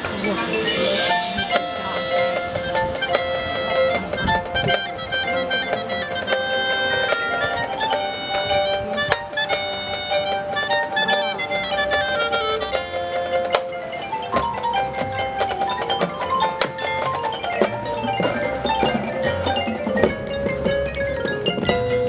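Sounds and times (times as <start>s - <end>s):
mallet percussion runs: 0.0s - 22.0s
marching band playing chords: 0.0s - 22.0s.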